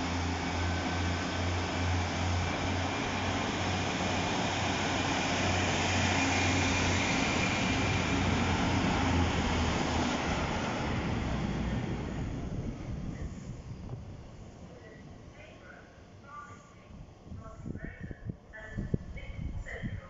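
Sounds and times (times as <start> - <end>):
diesel train engines under power: 0.0 - 20.0
rumble of train wheels: 0.0 - 20.0.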